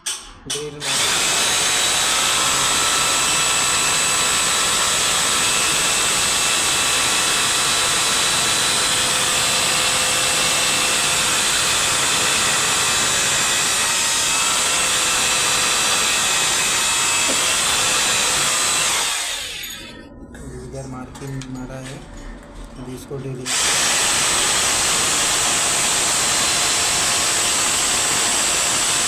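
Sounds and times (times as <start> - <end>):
electric power drill whining: 0.8 - 20.0, 23.5 - 29.0.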